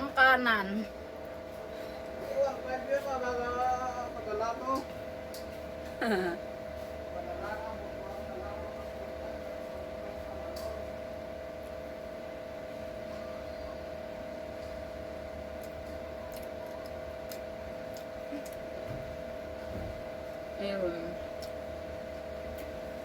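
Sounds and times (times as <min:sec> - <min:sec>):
mechanical hum with low rumble: 0:00.0 - 0:23.0.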